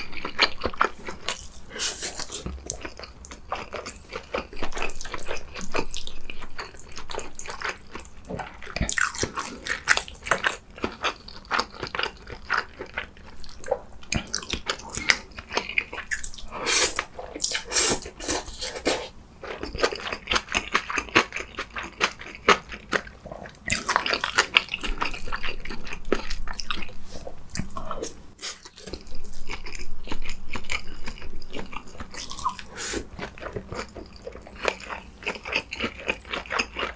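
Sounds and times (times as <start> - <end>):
wet chewing with small clicks: 2.1 - 17.7, 19.4 - 36.9.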